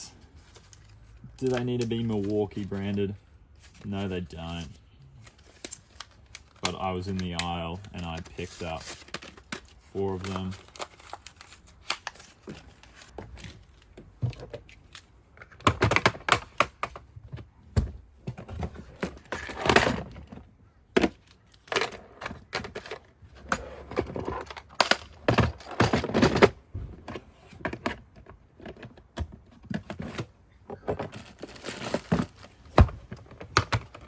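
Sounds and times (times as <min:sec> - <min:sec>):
tools and packaging handled: 0:00.0 - 0:34.0.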